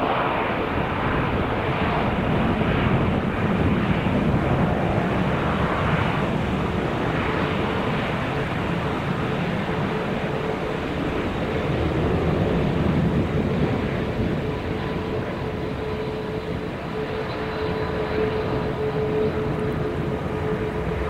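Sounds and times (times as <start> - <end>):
jet engines rumbling and whining: 0.0 - 21.0.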